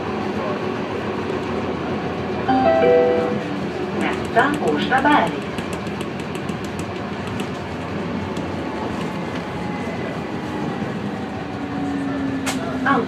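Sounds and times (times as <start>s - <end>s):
tram wheels rumbling on track: 0.0s - 13.0s.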